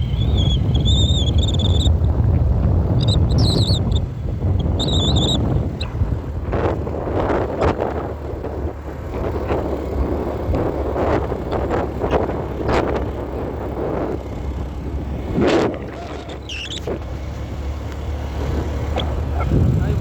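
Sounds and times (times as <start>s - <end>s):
motorbike engine running: 0.0s - 20.0s
wind buffeting: 0.0s - 20.0s.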